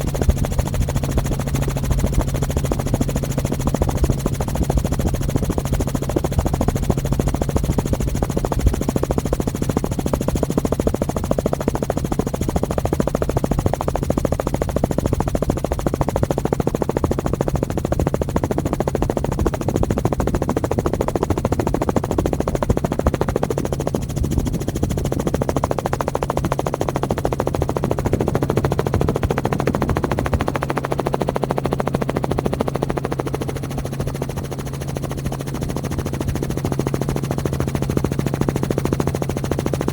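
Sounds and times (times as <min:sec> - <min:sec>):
helicopter rotor pulsing: 0:00.0 - 0:39.9.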